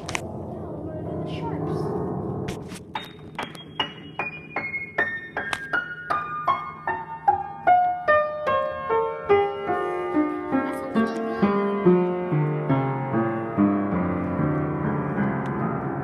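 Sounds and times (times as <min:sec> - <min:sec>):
piano single notes descending: 0:01.7 - 0:16.0.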